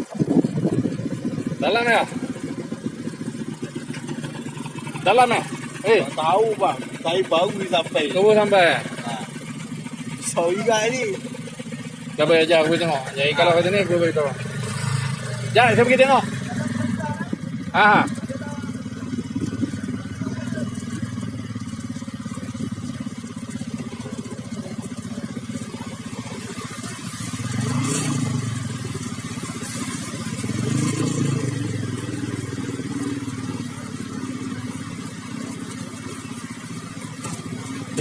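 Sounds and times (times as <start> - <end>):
small vehicle engine running: 0.0 - 38.0.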